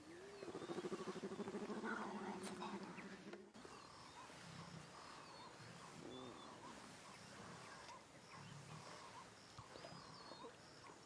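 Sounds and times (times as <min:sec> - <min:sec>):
animals growling: 0:00.0 - 0:10.9
birds chirping: 0:00.0 - 0:11.0.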